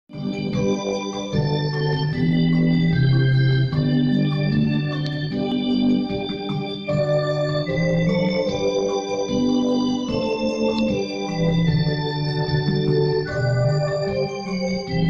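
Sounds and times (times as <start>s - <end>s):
electronic keyboard organ chords: 0.1s - 15.0s.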